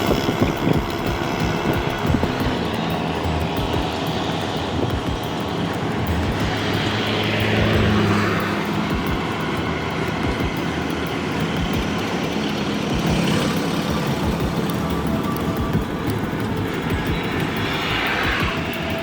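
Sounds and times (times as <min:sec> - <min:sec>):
low rumbling noise: 0:00.0 - 0:19.0
vehicle engine running: 0:00.0 - 0:19.0.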